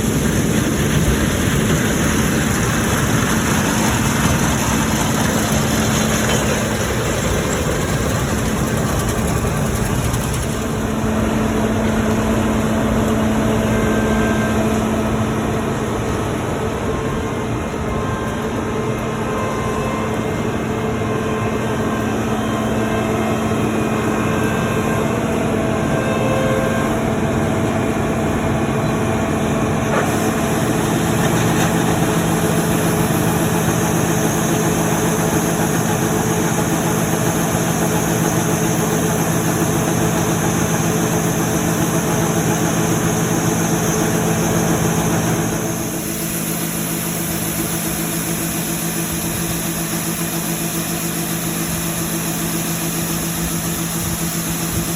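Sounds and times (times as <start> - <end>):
farm machinery engine hum: 0.0 - 54.9.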